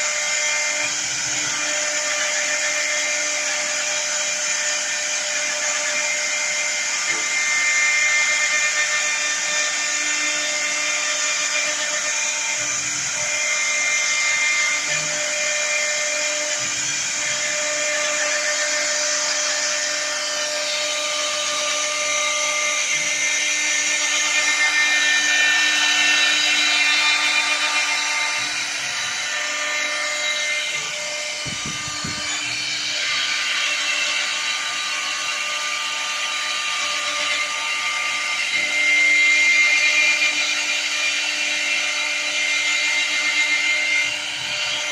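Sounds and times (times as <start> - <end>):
router spindle whining: 0.0 - 44.9.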